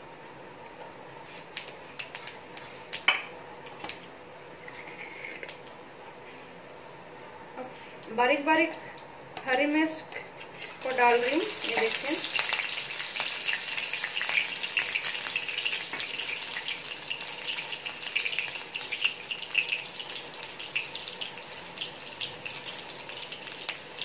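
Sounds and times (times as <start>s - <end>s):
chillies sizzling in hot ghee: 0.0s - 6.4s, 7.8s - 24.0s.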